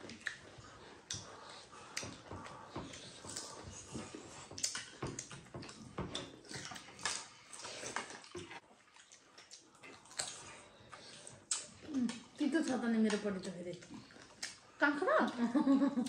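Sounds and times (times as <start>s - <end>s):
wet chewing and smacking: 0.0s - 15.6s.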